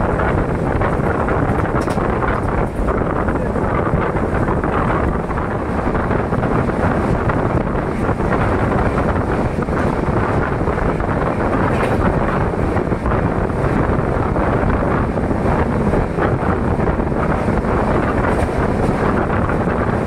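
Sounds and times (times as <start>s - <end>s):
train coach rumbling on track: 0.0s - 20.0s
wind noise on microphone: 0.0s - 20.0s.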